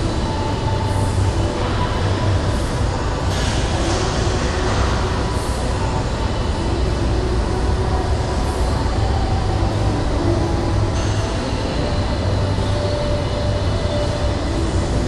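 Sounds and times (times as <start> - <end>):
gym background rumble and hiss: 0.0 - 15.0.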